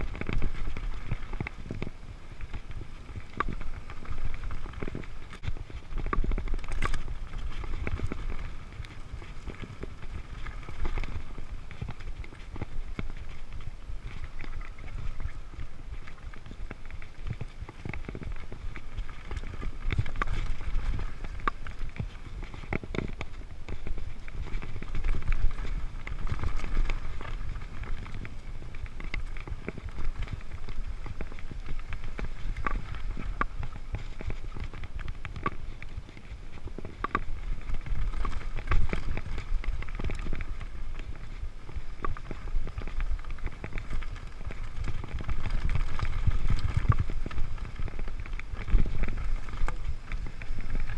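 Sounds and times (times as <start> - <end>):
bike rattling: 0.0 - 50.9
bike tyre noise: 0.0 - 50.9
clicks and knocks over bumps: 0.0 - 50.9
wind rumble on microphone: 0.0 - 50.9.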